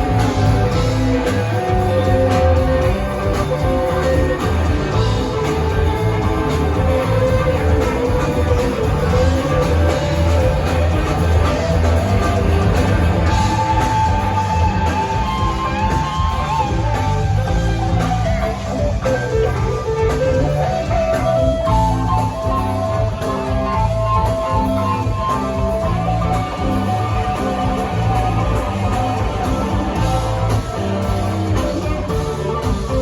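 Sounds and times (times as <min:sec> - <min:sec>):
bass and drums: 0:00.0 - 0:33.0
electric guitar sustained notes: 0:00.0 - 0:33.0.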